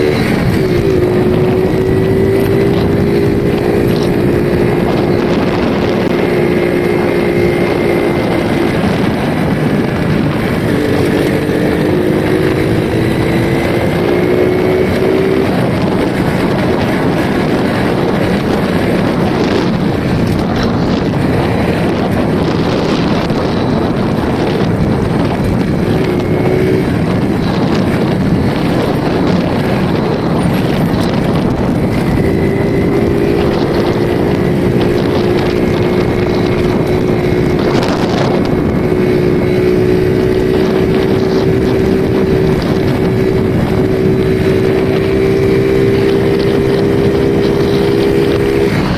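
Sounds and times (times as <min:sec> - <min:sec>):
motorcycle engine: 0:00.0 - 0:48.9
wind noise on microphone: 0:00.0 - 0:48.9.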